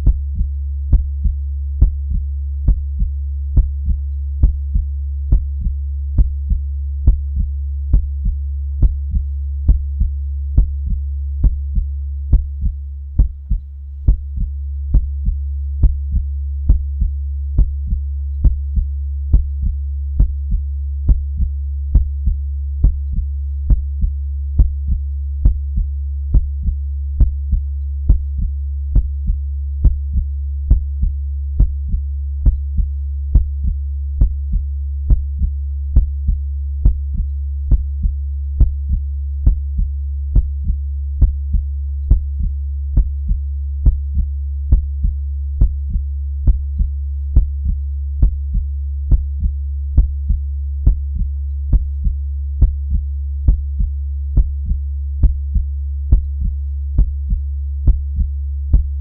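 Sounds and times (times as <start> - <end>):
constant low hum: 0.0 - 59.0
slow heartbeat thumps: 0.0 - 59.0.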